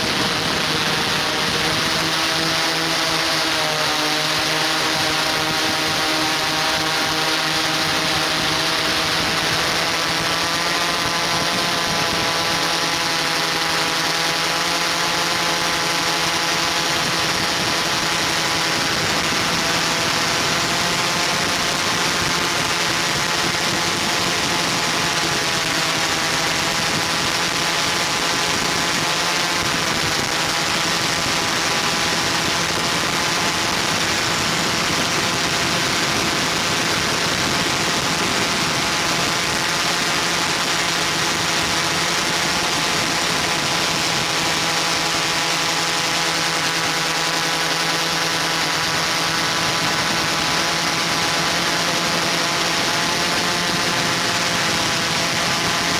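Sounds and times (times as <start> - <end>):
drone propellers humming: 0.0 - 55.9.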